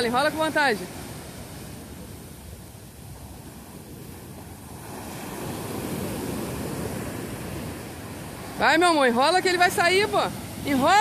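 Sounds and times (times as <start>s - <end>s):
heavy surf breaking on sand: 0.0s - 11.0s.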